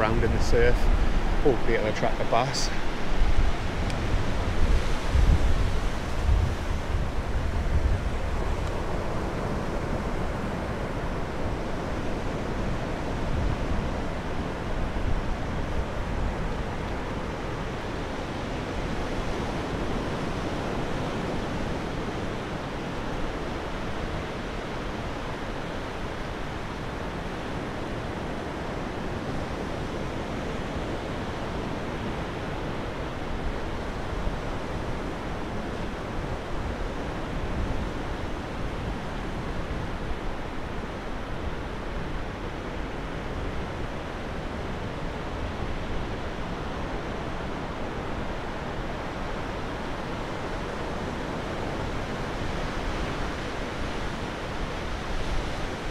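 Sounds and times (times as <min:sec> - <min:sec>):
wind on microphone: 0:00.0 - 0:55.9.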